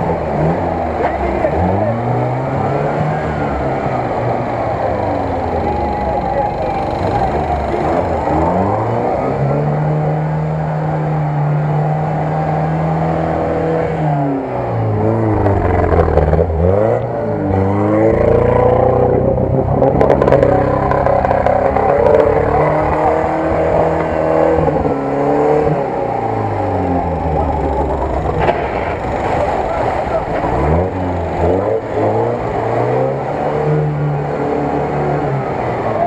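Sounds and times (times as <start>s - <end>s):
off-road vehicle engine under load: 0.0s - 36.0s.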